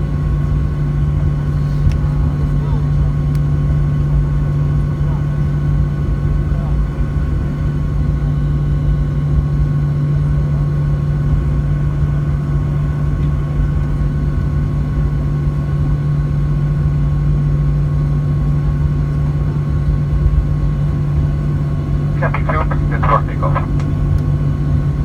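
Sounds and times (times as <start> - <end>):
jet engines heard from cabin: 0.0 - 25.0.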